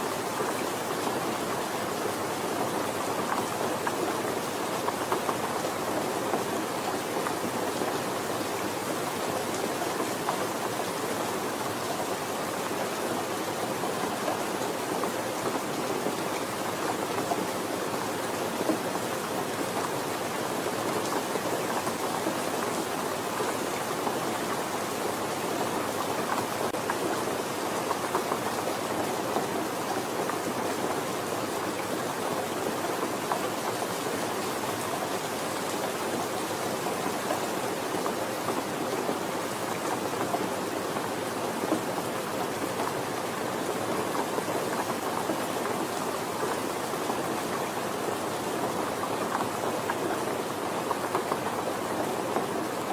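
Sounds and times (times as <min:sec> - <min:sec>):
soft rain falling: 0:00.0 - 0:52.9.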